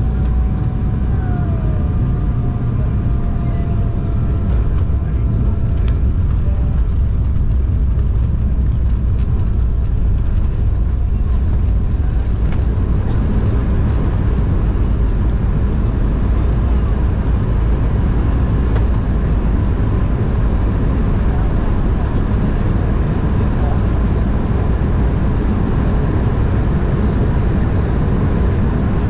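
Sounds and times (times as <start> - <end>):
airliner cabin engine rumble: 0.0 - 29.0.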